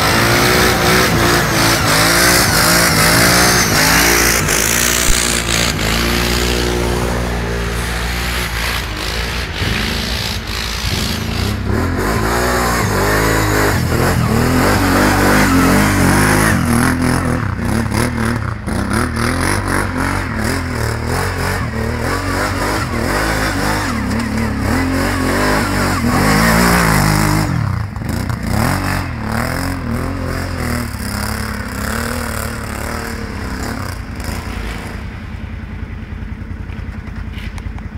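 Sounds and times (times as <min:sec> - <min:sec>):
atv engine revving: 0:00.0 - 0:37.9.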